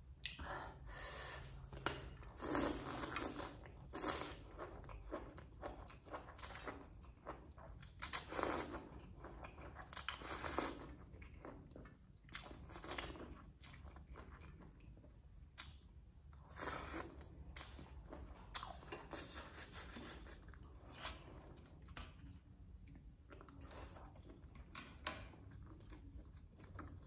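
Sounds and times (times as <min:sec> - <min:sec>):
chewing and crunching food: 0:01.7 - 0:27.0.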